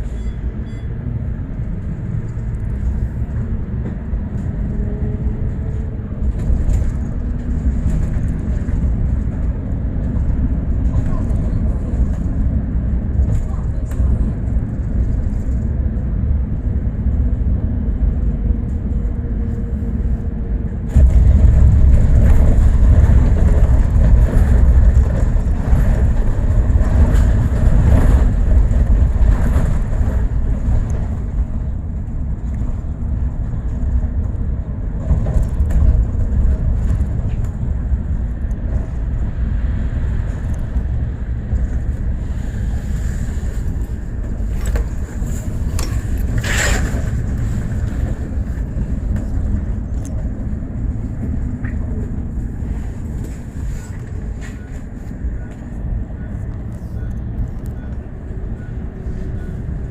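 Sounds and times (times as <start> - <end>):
bus engine and tyres rumbling: 0.0 - 59.9.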